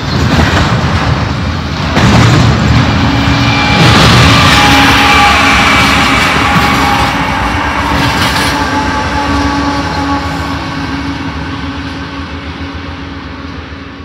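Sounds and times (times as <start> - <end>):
diesel locomotive engines humming: 0.0 - 14.0
train wheels rumbling on rails: 0.0 - 14.0.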